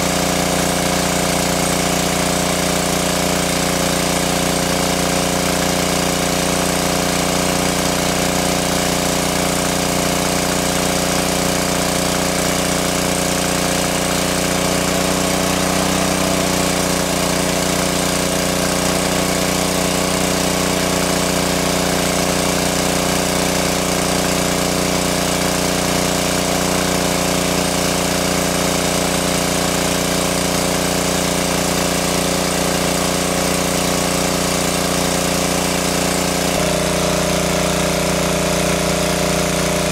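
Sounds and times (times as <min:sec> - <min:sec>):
water pump engine running: 0:00.0 - 0:39.9.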